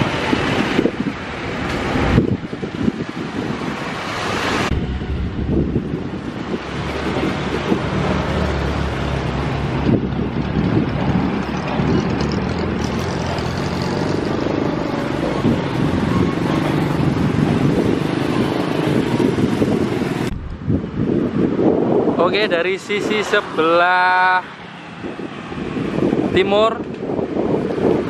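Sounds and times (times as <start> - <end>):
wind buffeting microphone: 0.0 - 23.6, 24.8 - 28.0
passing road traffic rumble: 0.0 - 28.0.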